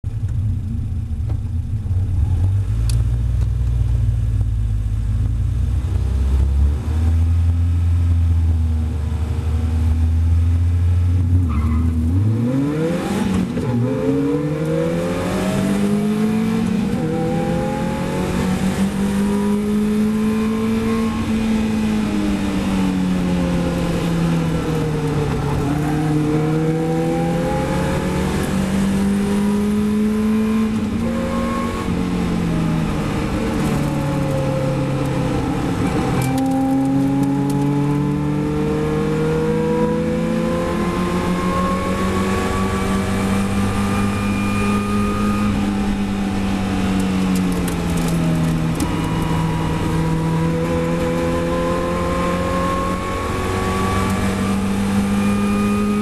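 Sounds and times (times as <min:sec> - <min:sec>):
wind and road noise: 0:00.0 - 0:56.0
race car engine revving: 0:09.2 - 0:56.0.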